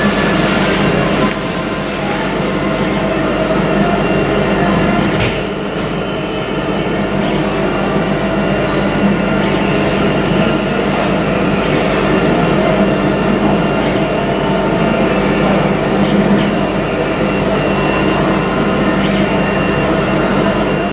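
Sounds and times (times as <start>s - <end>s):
laser engraver humming: 0.0s - 20.9s.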